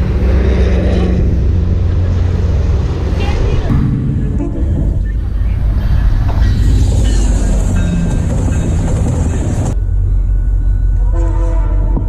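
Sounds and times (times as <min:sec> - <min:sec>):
steady tones: 0:00.0 - 0:11.2
train wheels rumbling on rail: 0:00.0 - 0:12.0.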